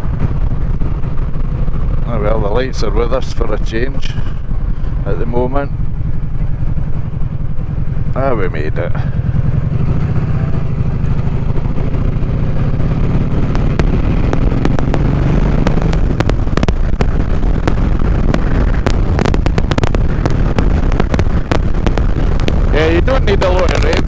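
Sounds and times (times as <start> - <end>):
motorcycle engine running rough: 0.0 - 24.0
wind crackling on microphone: 0.0 - 24.0.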